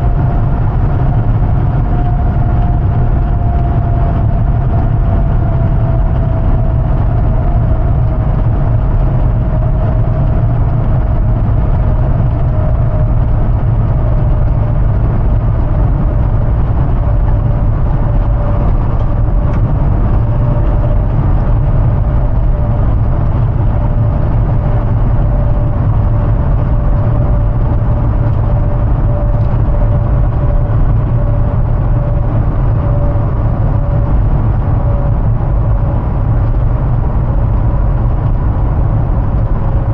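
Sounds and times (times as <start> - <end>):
vehicle engine and road drone: 0.0 - 39.9.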